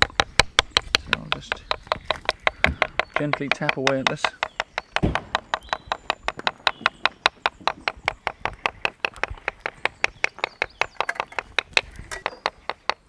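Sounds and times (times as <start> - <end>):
fast tapping on a stick: 0.0 - 13.0.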